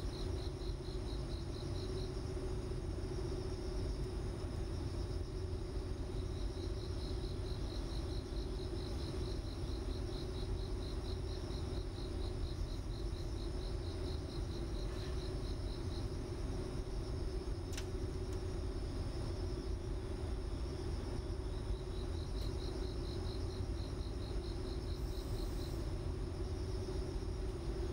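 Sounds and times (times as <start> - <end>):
insect chirping: 0.0 - 27.9
low hum and rumble: 0.0 - 27.9.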